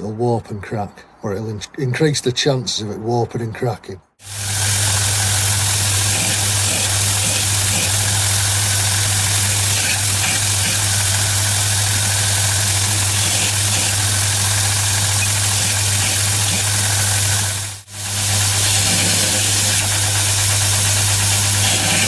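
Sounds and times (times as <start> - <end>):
electric motor humming: 4.2 - 22.0
grinder belt hissing: 4.2 - 22.0.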